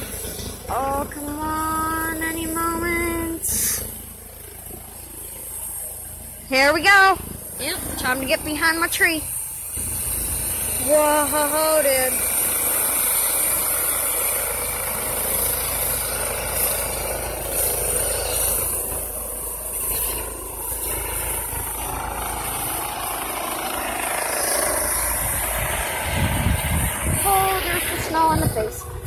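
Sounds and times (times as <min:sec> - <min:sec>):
helicopter rotor and turbine noise: 0:00.0 - 0:29.0.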